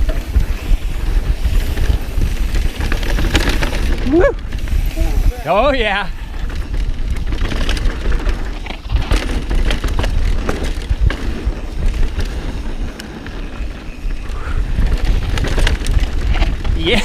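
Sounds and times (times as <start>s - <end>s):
bike rattling and knocking: 0.0s - 17.0s
bike tyres rolling over dirt: 0.0s - 17.0s
wind rumble on microphone: 0.0s - 17.0s.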